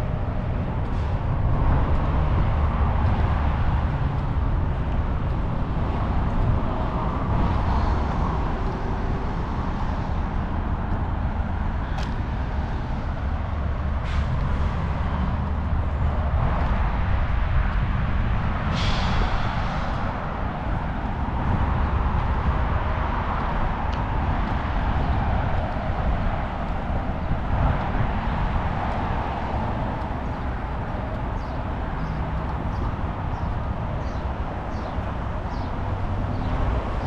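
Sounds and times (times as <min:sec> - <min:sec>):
vehicle rumble with road hiss: 0:00.0 - 0:37.0.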